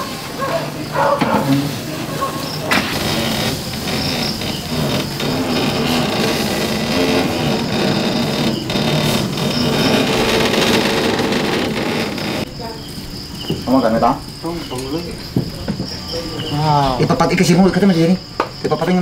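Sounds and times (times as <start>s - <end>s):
crickets chirping: 0.0s - 19.0s
indistinct voices: 0.0s - 19.0s.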